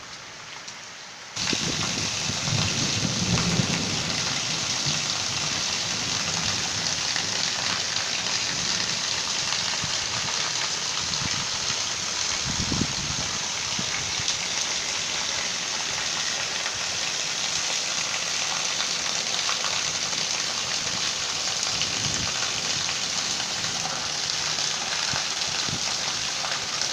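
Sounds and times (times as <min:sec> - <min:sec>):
heavy rain falling: 0:00.0 - 0:26.9.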